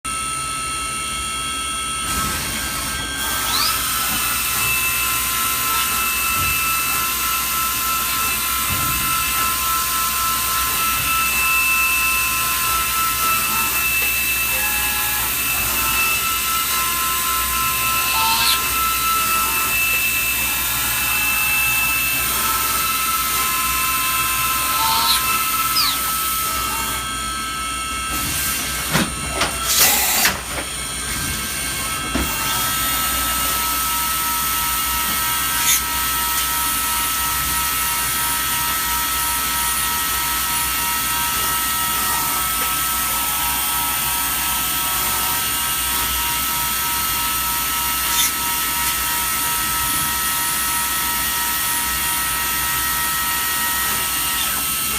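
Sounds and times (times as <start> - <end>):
milling machine spindle whine: 0.1 - 54.9
sharp loud machine noises: 0.1 - 54.9.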